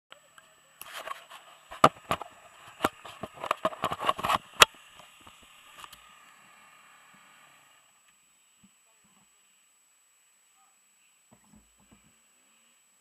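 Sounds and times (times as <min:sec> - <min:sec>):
faint hiss: 0:00.1 - 0:13.0.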